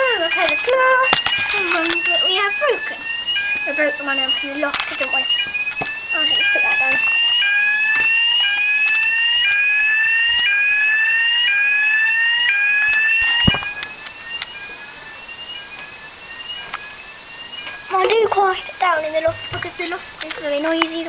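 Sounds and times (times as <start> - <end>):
fire alarm rising sweep tone: 0.0 - 21.0.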